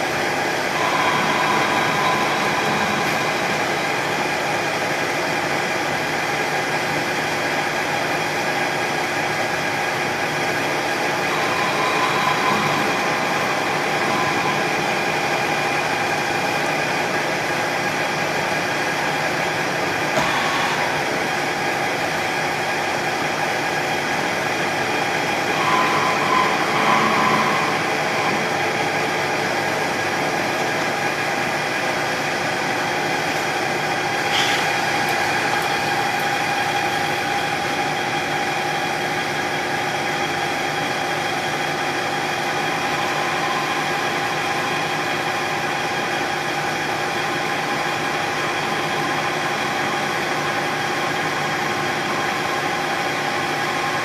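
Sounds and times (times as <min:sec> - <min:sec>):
lathe cutting metal: 0:00.0 - 0:54.0
metal lathe running: 0:00.0 - 0:54.0.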